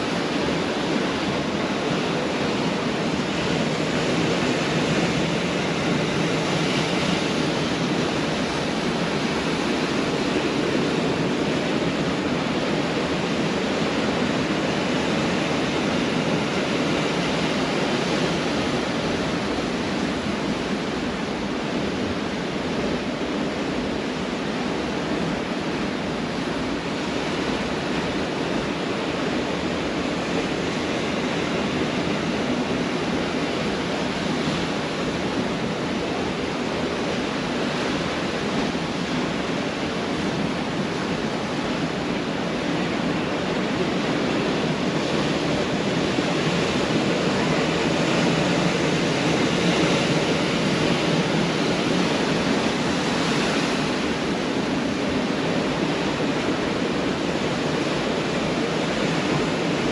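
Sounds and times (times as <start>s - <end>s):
surf breaking on a beach: 0.0s - 59.9s.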